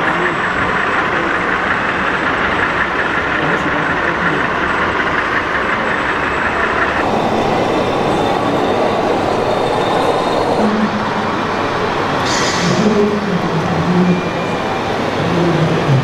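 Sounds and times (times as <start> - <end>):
model freight cars rolling on track: 0.0 - 16.0.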